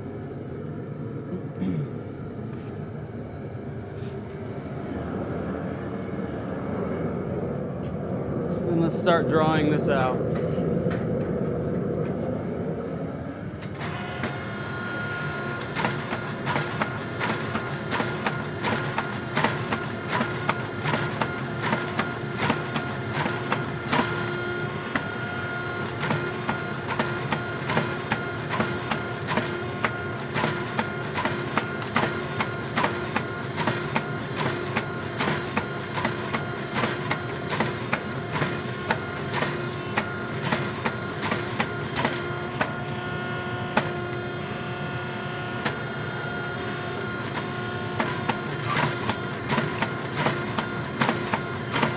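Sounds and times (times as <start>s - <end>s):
machine hum: 0.0s - 51.9s.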